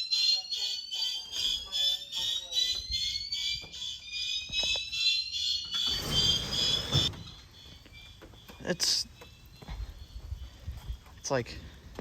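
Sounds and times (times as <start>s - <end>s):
fire alarm horns pulsing: 0.0s - 11.9s.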